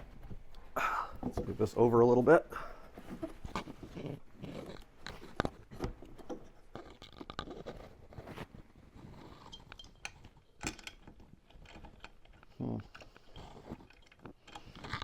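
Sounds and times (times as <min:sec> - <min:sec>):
parts scraping and clicking: 0:00.0 - 0:15.0.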